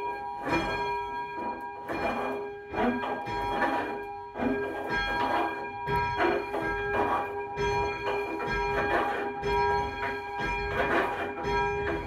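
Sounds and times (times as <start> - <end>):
church bell ringing: 0.0 - 12.0.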